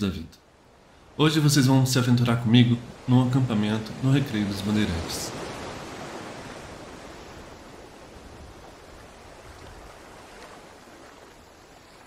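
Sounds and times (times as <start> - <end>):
ocean surf breaking: 0.5 - 12.0.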